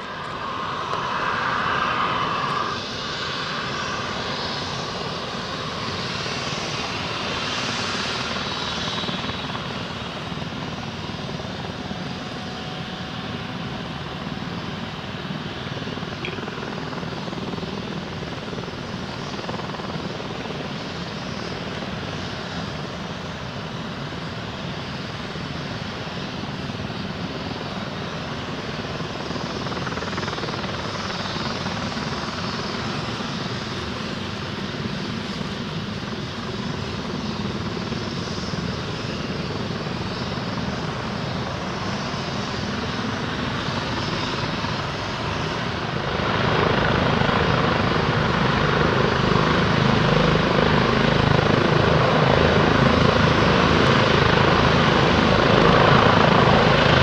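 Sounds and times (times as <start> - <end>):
helicopter engines and rotors: 0.0 - 57.0.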